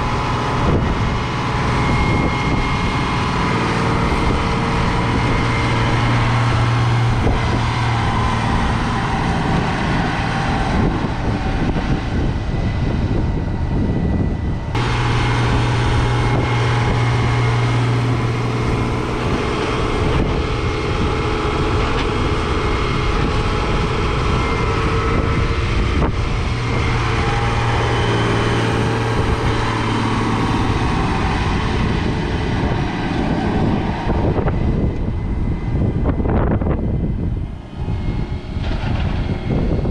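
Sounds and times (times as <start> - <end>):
diesel farm machinery running: 0.0 - 39.9.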